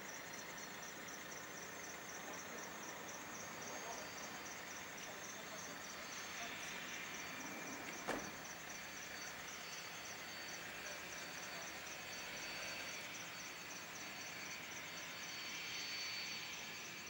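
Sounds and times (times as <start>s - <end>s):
crickets chirping: 0.0s - 17.0s
jet engines hissing: 1.7s - 17.0s.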